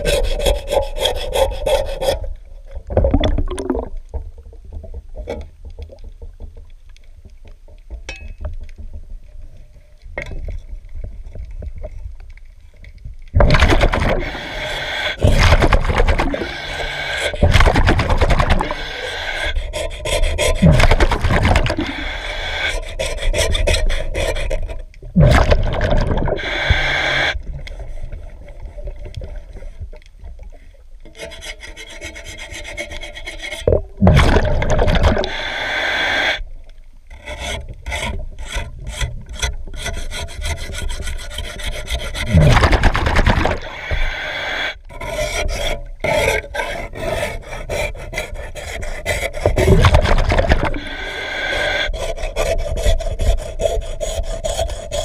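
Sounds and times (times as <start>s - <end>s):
scraper rasping underwater: 0.0s - 55.0s.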